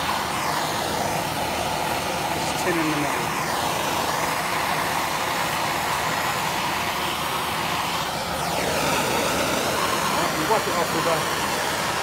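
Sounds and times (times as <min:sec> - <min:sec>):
blowtorch hissing: 0:00.0 - 0:12.0.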